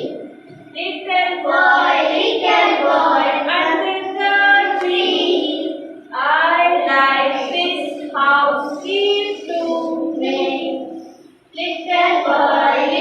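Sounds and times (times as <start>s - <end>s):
high voice singing: 0.0s - 13.0s.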